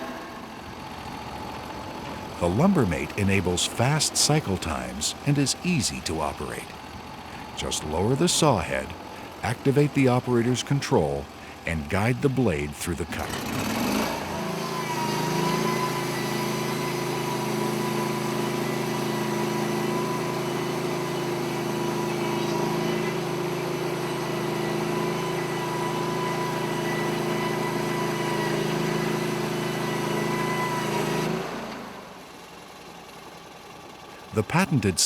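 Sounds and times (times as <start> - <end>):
sawmill engine at full throttle: 0.0 - 35.0.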